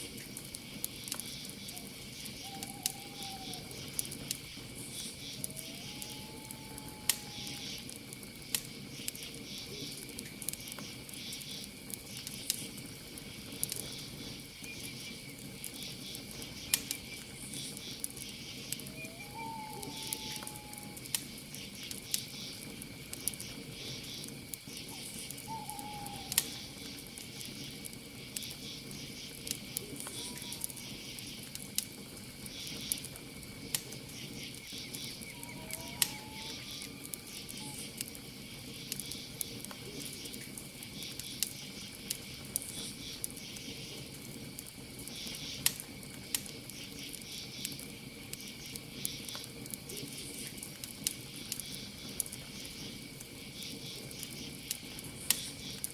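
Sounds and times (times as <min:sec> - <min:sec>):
campfire crackling: 0:00.0 - 0:55.9
cricket trill: 0:00.0 - 0:55.9
high insect chorus: 0:00.0 - 0:55.9.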